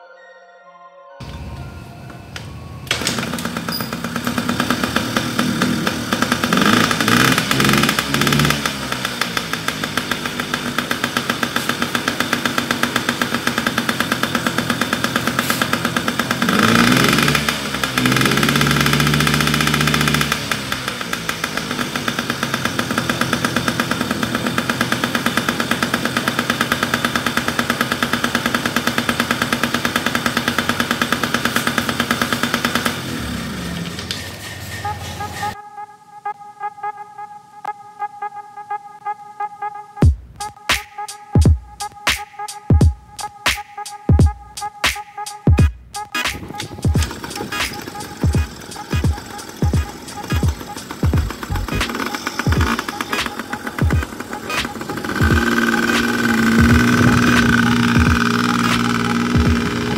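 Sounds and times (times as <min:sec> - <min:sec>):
two-stroke engine idling and revving: 0:01.3 - 0:35.6, 0:45.6 - 0:59.9.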